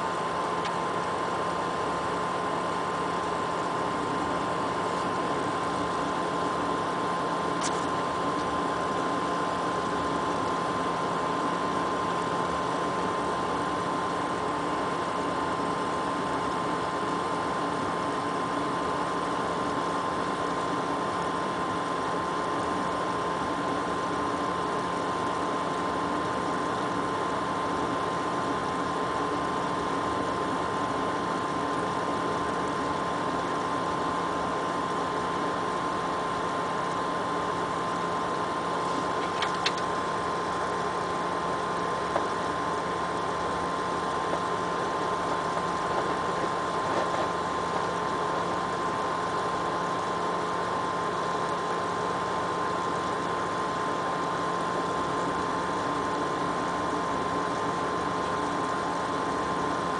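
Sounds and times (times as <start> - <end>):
water pump humming whine: 0.0 - 59.9.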